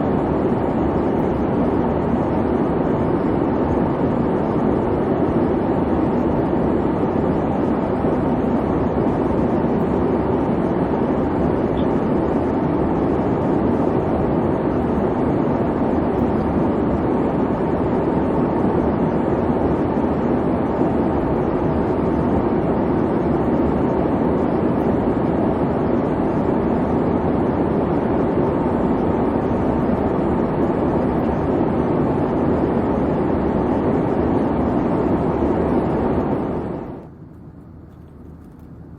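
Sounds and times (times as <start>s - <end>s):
airliner cabin engine hum: 0.0s - 38.9s.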